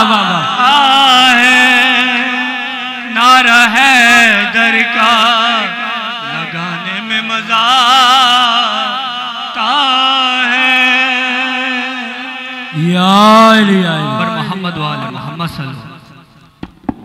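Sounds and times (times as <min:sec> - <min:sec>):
man singing ornamented melody: 0:00.0 - 0:16.4.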